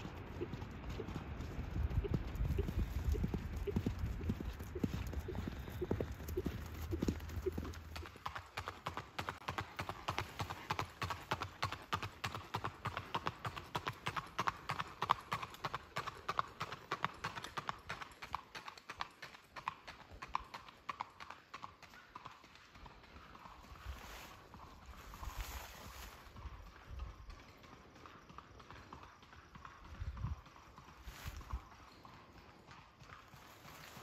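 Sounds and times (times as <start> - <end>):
horse hooves clip-clopping on pavement: 0.0 - 34.0.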